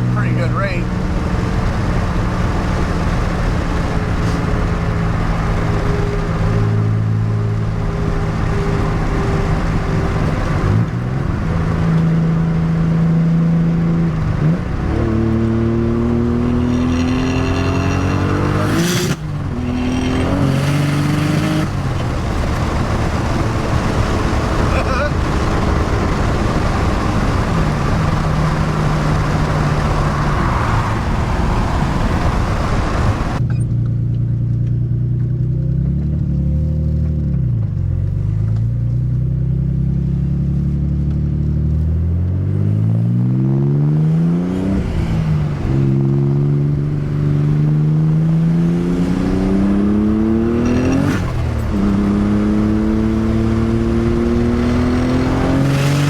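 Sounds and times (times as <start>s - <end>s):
car engine accelerating through gears: 0.0s - 56.0s
road and wind noise: 0.0s - 56.0s.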